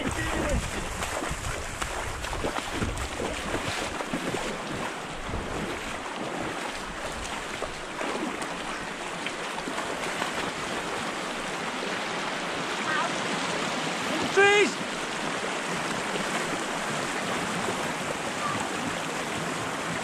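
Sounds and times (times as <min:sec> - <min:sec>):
river water running and lapping: 0:00.0 - 0:20.0
small water splashes: 0:00.0 - 0:20.0.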